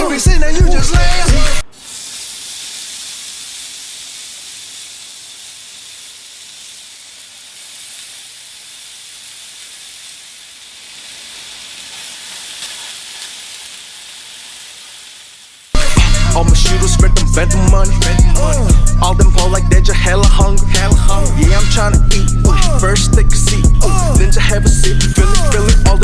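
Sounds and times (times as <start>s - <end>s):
high-pitched hiss: 1.2s - 22.4s.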